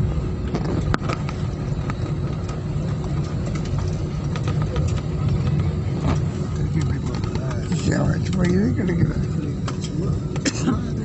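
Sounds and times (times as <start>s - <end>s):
airliner cabin low rumble: 0.0s - 11.0s
faint clicks and rattles: 0.4s - 10.6s.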